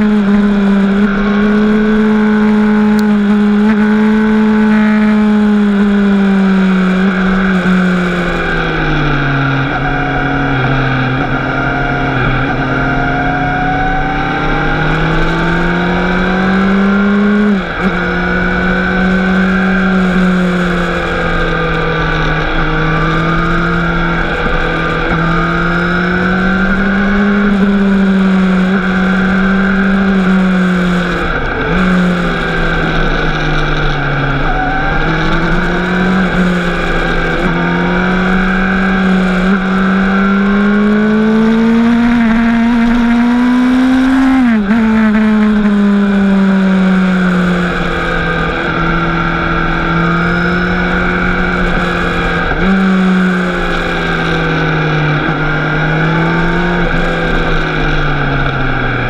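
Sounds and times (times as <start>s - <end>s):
motorcycle engine under load: 0.0s - 59.0s.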